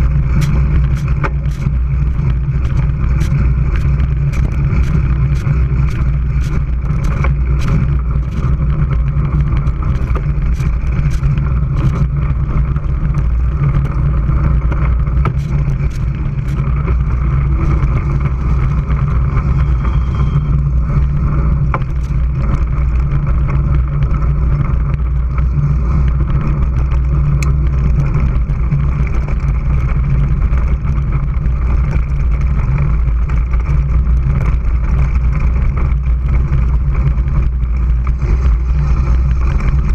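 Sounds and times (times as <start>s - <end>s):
bike clicks and rattles: 0.0s - 39.9s
bike tyres rumbling on dirt: 0.0s - 39.9s
wind on microphone: 0.0s - 39.9s.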